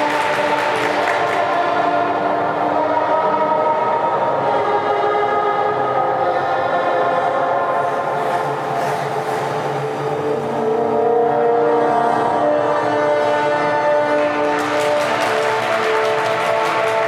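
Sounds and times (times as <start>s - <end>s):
skating program music over speakers: 0.0s - 17.0s.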